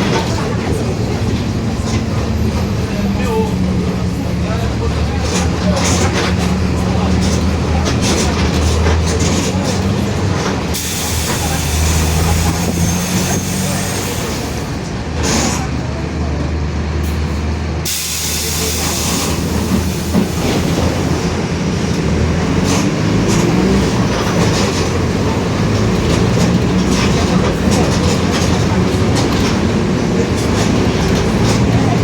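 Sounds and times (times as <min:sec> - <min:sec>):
bus diesel engine under load: 0:00.0 - 0:32.0.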